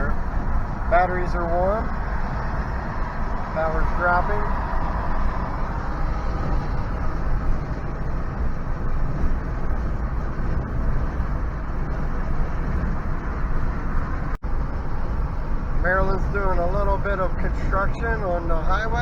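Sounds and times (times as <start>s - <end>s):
road and tyre noise inside car: 0.0s - 19.0s.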